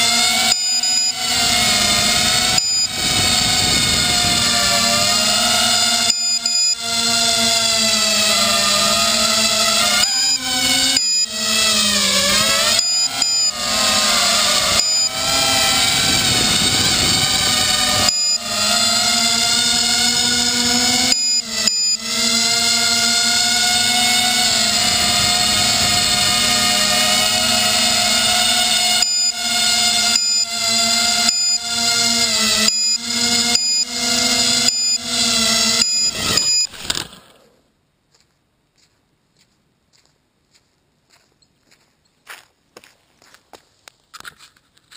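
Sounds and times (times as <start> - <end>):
drone motors buzzing whine: 0.0 - 37.8.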